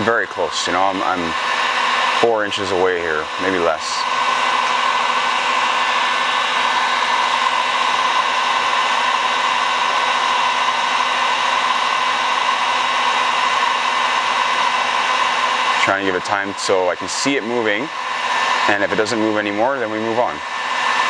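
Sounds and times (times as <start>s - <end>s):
heat gun fan blowing air: 0.0s - 21.0s.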